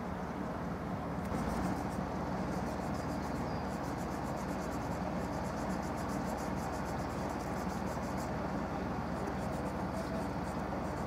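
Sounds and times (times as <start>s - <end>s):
low background noise: 0.0s - 11.0s
insects chirping in high ticks: 1.2s - 11.0s.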